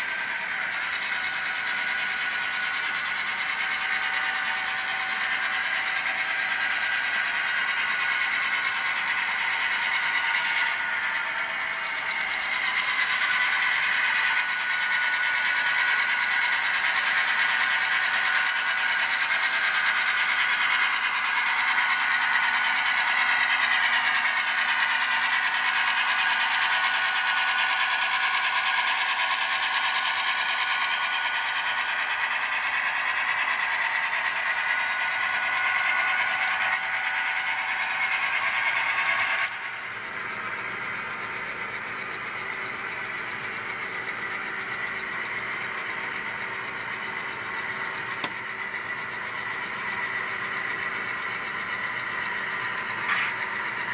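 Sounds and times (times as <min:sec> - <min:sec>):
model train rolling on track: 0:00.0 - 0:53.9.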